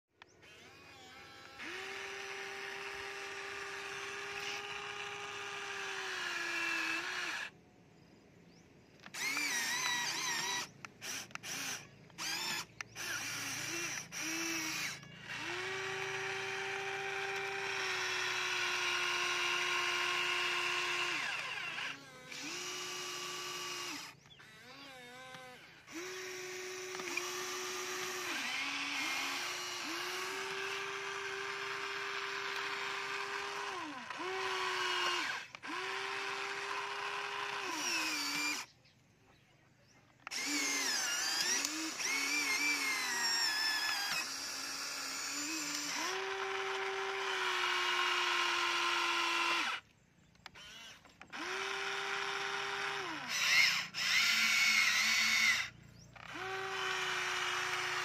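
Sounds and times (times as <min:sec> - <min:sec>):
toy excavator motors whining: 0:00.2 - 0:07.6, 0:08.5 - 0:58.0.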